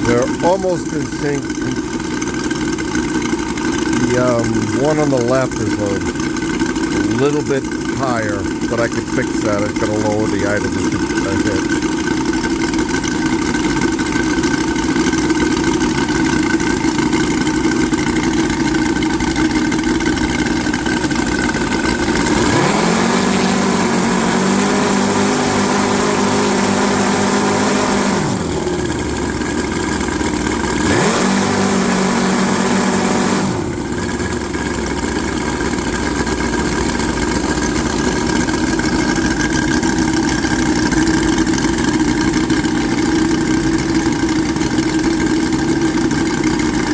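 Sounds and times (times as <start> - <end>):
model aircraft engines running: 0.0 - 46.9.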